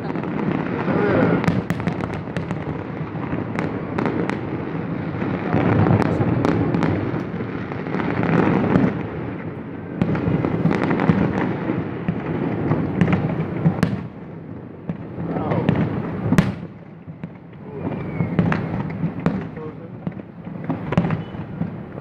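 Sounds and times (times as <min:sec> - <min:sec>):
firework cracks and bangs: 0:00.0 - 0:22.0
rumble of firework bursts: 0:00.0 - 0:22.0.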